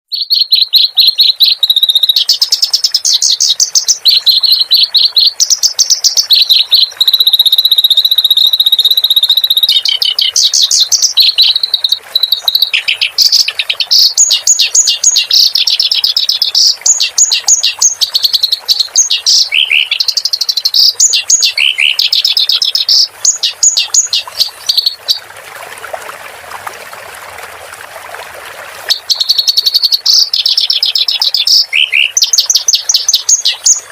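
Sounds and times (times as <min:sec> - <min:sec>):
songbird chattering song: 0:00.1 - 0:25.2, 0:28.9 - 0:33.9
rushing water: 0:00.3 - 0:33.9.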